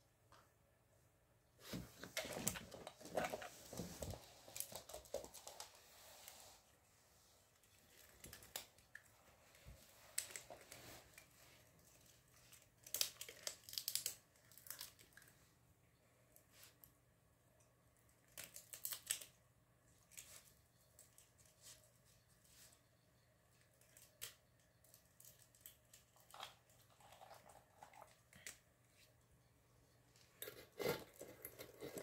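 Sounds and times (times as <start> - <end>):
raccoon rustling and crinkling: 1.6 - 15.5, 18.0 - 32.0.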